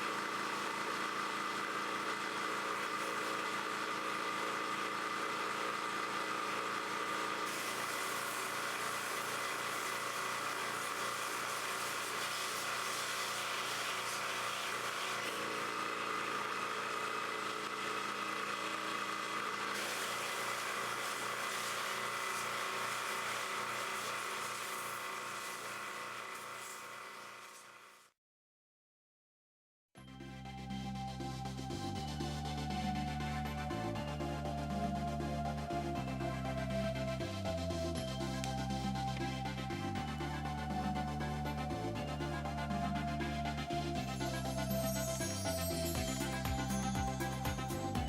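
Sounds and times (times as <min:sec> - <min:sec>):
machine motor humming and hissing: 0:00.0 - 0:28.1, 0:32.4 - 0:48.0.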